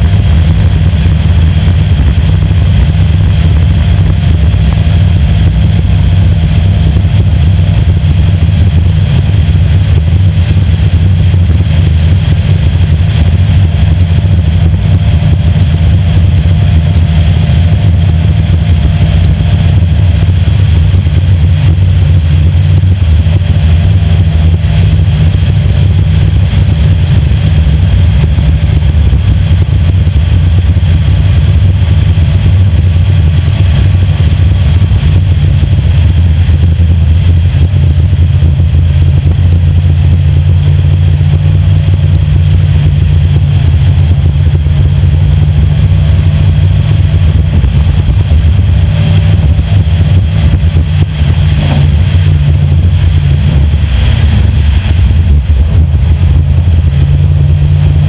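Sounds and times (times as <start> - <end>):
race boat engine running hard: 0.0 - 58.0.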